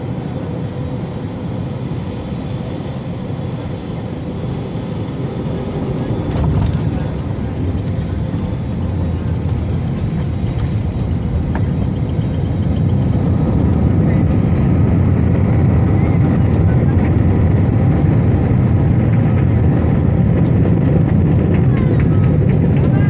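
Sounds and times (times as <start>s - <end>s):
aircraft cabin engine noise: 0.0s - 23.0s.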